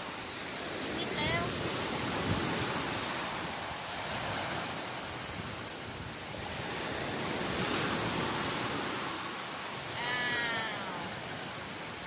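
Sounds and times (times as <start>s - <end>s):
sea waves washing onto beach: 0.0s - 12.0s.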